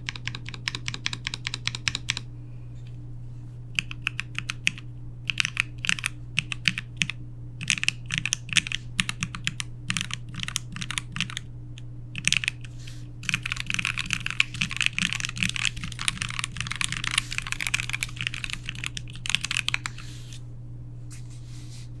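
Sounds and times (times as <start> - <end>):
mechanical keyboard typing: 0.0 - 2.2, 3.8 - 11.5, 12.2 - 20.0.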